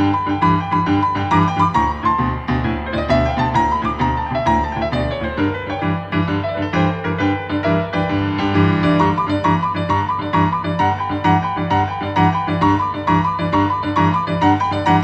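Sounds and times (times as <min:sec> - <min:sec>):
boogie-woogie piano: 0:00.0 - 0:15.0.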